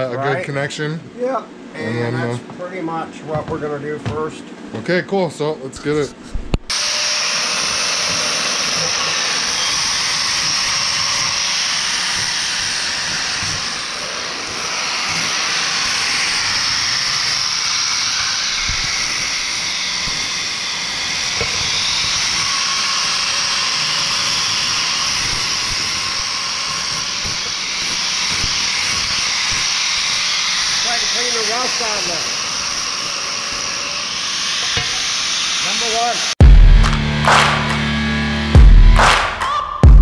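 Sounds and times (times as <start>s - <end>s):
angle grinder grinding metal: 6.7s - 39.5s.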